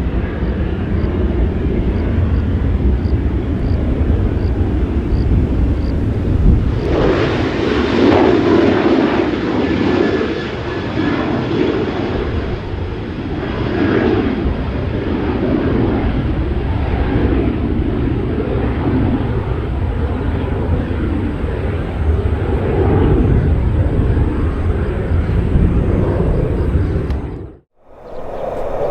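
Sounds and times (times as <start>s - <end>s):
military aircraft engines droning: 0.0s - 28.9s.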